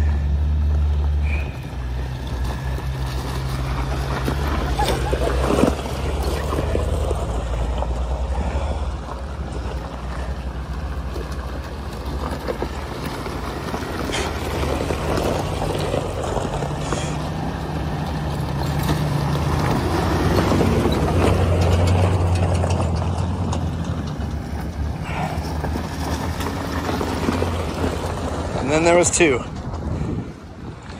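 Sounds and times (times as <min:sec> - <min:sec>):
low engine hum: 0:00.0 - 0:30.9
tyre and road noise: 0:00.0 - 0:30.9.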